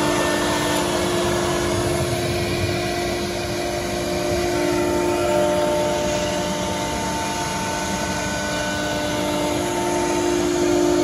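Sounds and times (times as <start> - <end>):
router spindle whine: 0.0 - 11.0.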